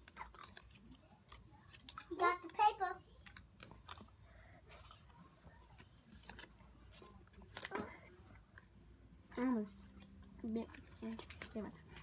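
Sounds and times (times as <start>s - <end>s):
candy wrapper crinkling: 0.0s - 12.0s.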